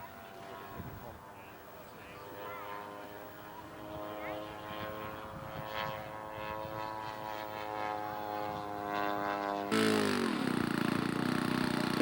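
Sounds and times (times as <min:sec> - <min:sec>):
model airplane engine droning: 0:00.0 - 0:12.0.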